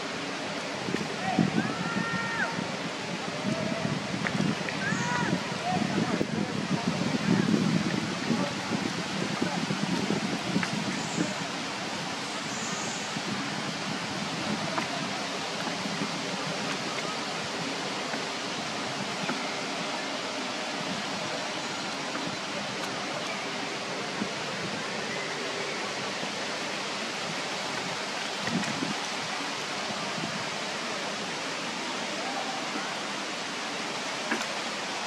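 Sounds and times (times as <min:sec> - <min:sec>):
outdoor background hiss: 0:00.0 - 0:35.0.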